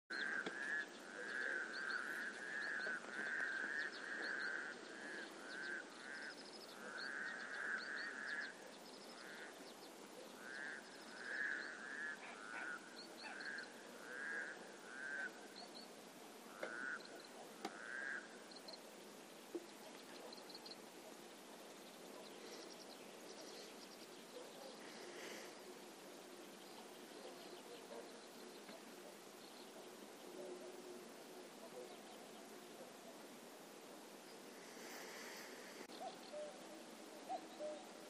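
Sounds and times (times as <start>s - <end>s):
frogs croaking: 0.1s - 33.6s, 34.3s - 37.9s.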